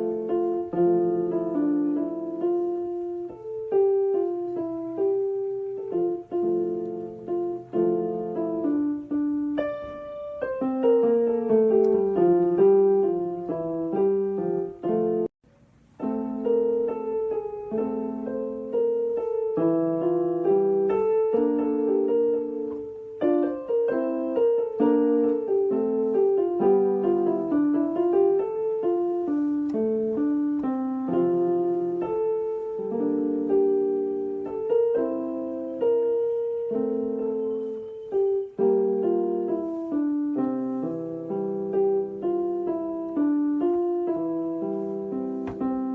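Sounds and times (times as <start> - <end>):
gentle piano music: 0.0 - 45.9.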